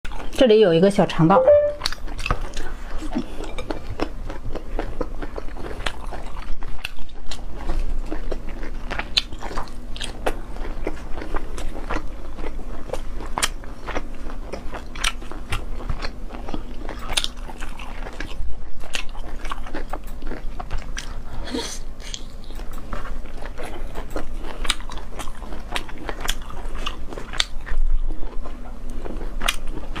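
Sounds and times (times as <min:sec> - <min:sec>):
crunching bites and chewing: 0:02.0 - 0:21.4, 0:22.0 - 0:30.0.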